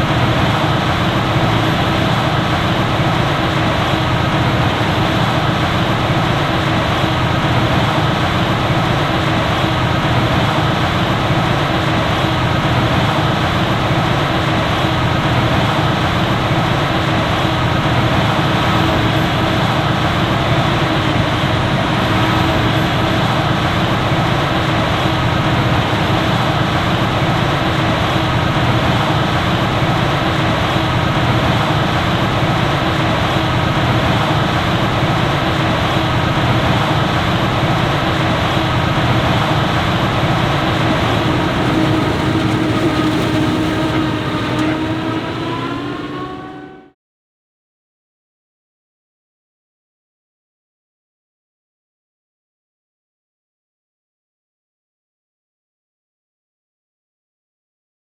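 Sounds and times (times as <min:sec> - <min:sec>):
heavy farm machinery humming: 0:00.0 - 0:47.0.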